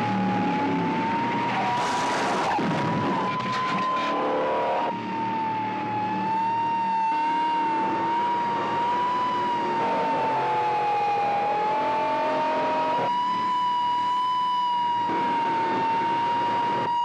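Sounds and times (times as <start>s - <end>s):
car engines revving: 0.0s - 17.0s
siren wailing: 0.0s - 17.0s.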